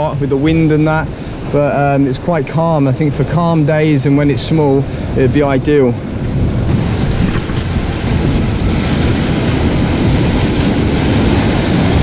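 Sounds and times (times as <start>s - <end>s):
waves breaking over rocks: 0.0s - 12.0s.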